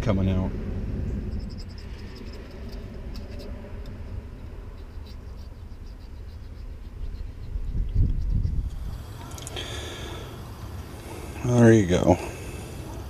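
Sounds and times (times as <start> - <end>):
low rumble: 0.0 - 11.4.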